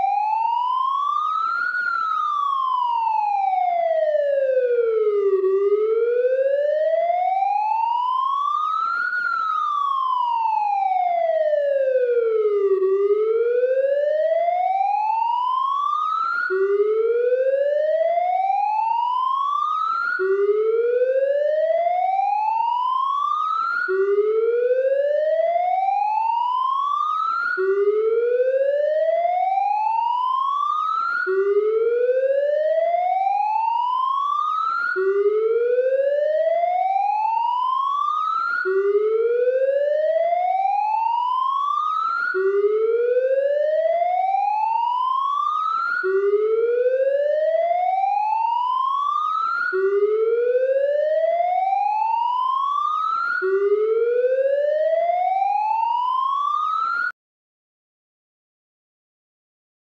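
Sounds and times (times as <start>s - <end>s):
police siren wailing: 0.0s - 57.2s.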